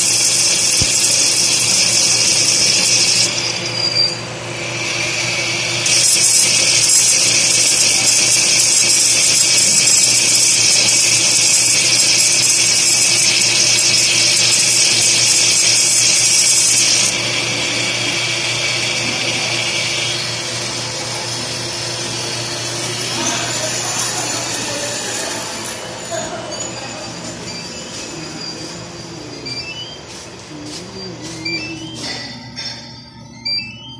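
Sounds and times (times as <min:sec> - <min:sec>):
high-pitched machine hiss: 0:00.0 - 0:33.9.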